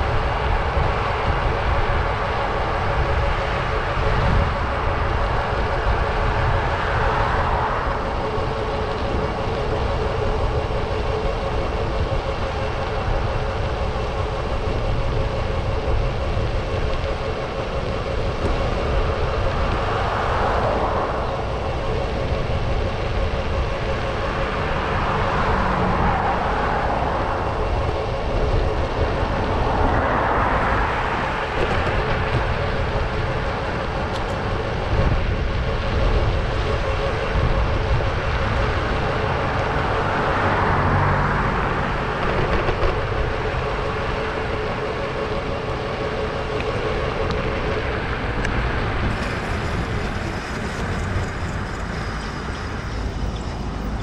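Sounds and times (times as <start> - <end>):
vehicles passing: 0.0 - 54.0
wind rumble on microphone: 0.0 - 54.0.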